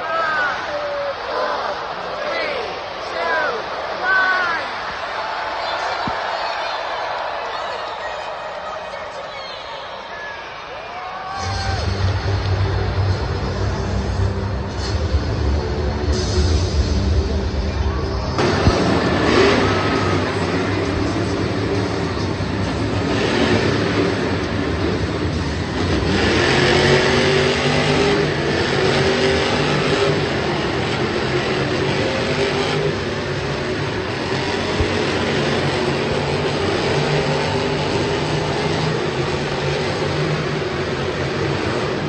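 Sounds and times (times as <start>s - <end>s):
monster truck engines revving: 0.0s - 42.0s.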